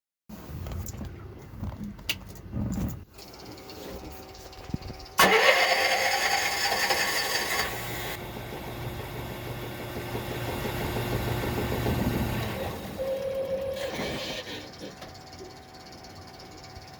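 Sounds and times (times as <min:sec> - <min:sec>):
generator engine running: 0:03.2 - 0:16.9.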